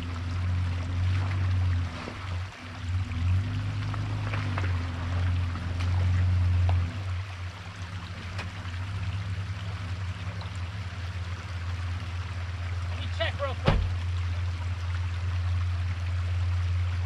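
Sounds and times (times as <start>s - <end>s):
truck engine revving and idling: 0.0s - 17.0s.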